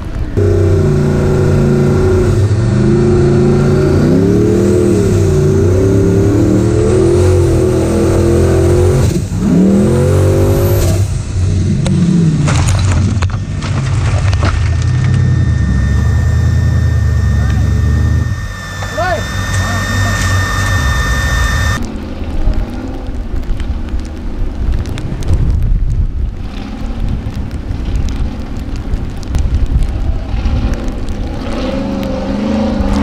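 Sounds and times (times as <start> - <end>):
buggy engine revving: 0.0 - 22.1, 26.3 - 33.0.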